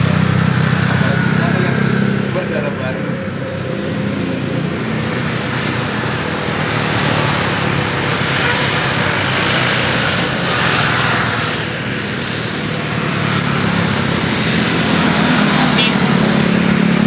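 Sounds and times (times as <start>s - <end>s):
jet engines passing by: 0.0s - 17.0s.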